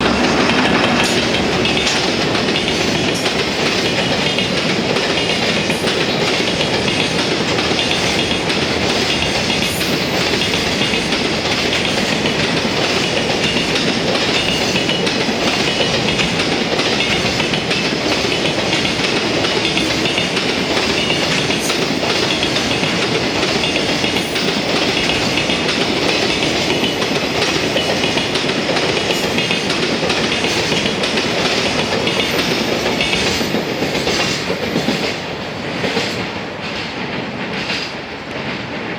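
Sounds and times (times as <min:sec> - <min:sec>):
clickety-clack of rail joints: 0:00.0 - 0:38.9
train wheels rumbling on rails: 0:00.0 - 0:38.9.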